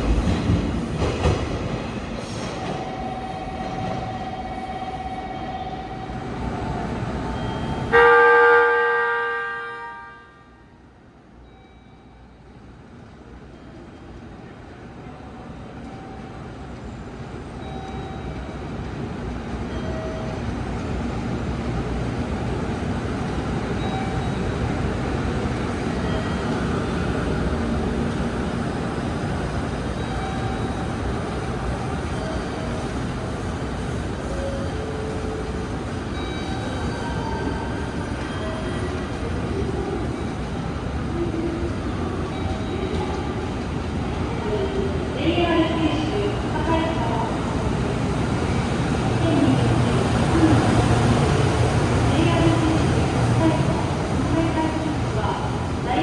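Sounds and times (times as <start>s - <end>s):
train rolling rumble: 0.0s - 8.0s, 12.6s - 56.0s.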